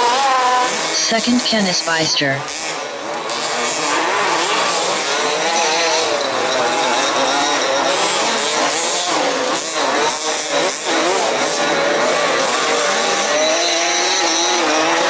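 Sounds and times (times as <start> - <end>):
rc car engines revving: 2.6 - 15.0.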